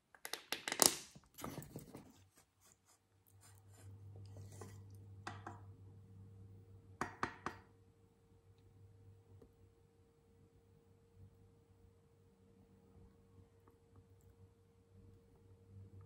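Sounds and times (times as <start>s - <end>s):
low steady hum: 1.4s - 16.0s.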